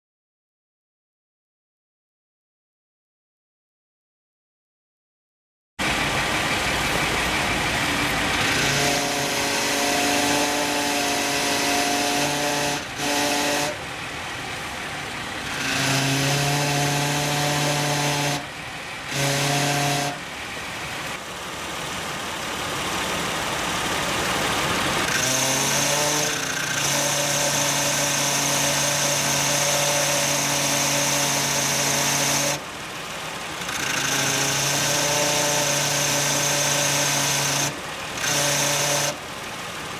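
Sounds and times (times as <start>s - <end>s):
car engine running: 5.8s - 39.9s
power steering pump whining: 5.8s - 39.9s.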